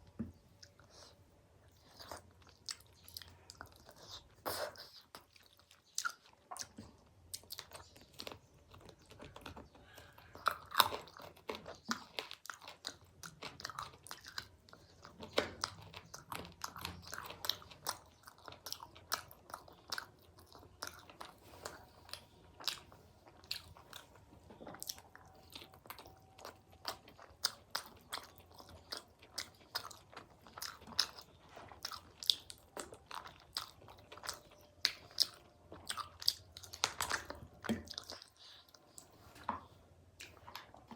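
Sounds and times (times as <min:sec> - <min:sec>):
person chewing and crunching: 0:00.6 - 0:40.9.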